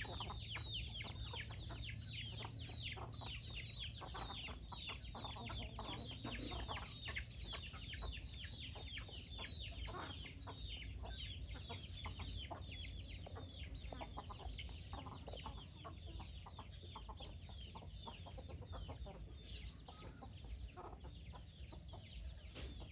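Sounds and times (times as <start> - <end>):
chickens chirping: 0.0 - 22.9.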